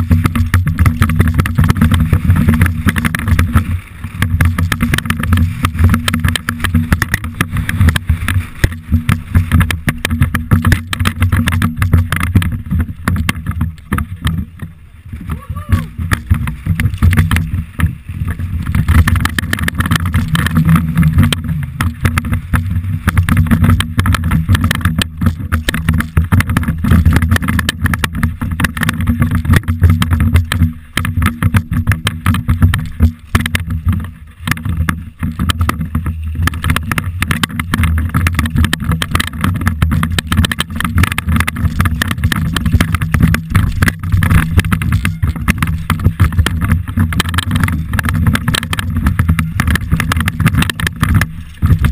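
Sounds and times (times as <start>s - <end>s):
mountain bike rattling: 0.0s - 51.9s
wind buffeting microphone: 0.0s - 51.9s.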